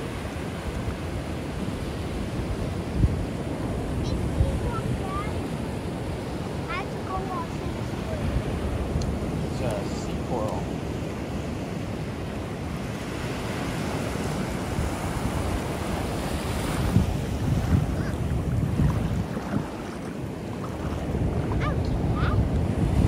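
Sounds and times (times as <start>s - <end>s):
ocean surf washing onto beach: 0.0s - 23.0s
wind buffeting microphone: 0.0s - 23.0s.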